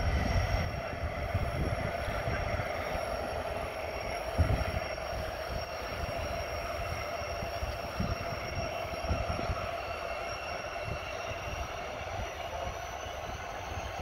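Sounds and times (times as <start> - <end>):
model train running on track: 0.0 - 14.0
wind buffeting microphone: 0.0 - 14.0.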